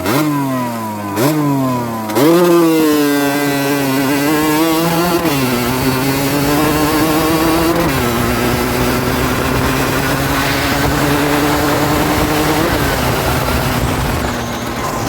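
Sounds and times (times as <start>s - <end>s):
two-stroke moped engine: 0.0s - 15.0s.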